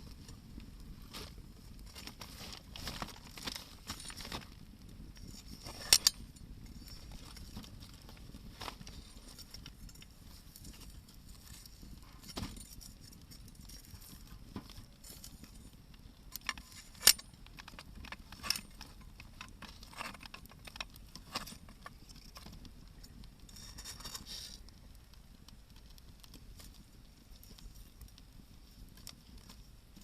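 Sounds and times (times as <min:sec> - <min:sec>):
campfire crackling and popping: 0:00.0 - 0:30.0
fire hissing: 0:00.0 - 0:30.0.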